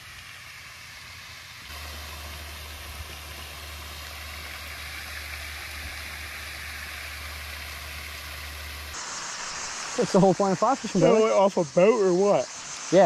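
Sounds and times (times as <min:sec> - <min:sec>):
fountains splashing: 0:00.0 - 0:13.0
steady low hum: 0:01.4 - 0:13.0.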